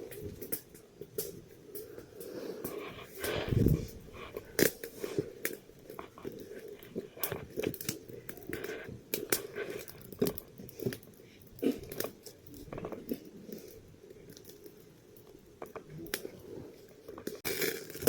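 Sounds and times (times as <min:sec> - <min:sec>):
small objects clicking and crinkling: 0:00.0 - 0:18.0.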